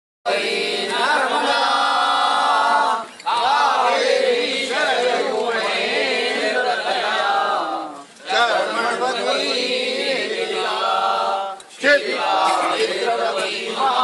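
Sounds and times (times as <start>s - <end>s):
group chanting a hymn: 0.3s - 14.0s.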